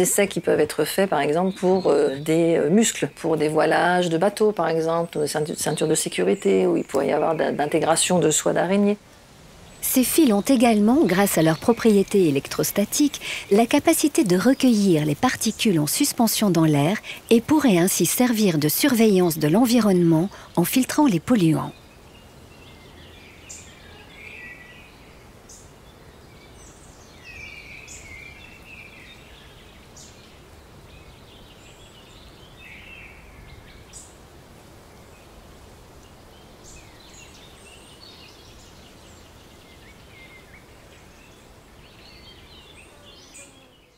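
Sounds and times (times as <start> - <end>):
birds chirping and warbling: 0.0 - 9.0, 9.6 - 34.2, 36.0 - 43.9
low background hiss: 0.0 - 43.9.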